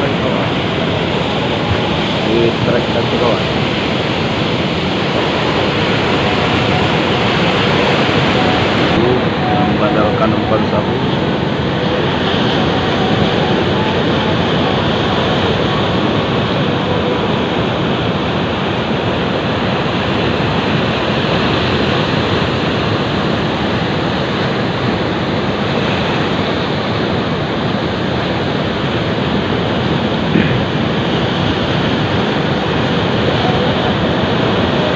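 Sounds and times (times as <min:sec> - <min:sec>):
waves washing against breakwater: 0:00.0 - 0:34.9
wind on microphone: 0:00.0 - 0:34.9.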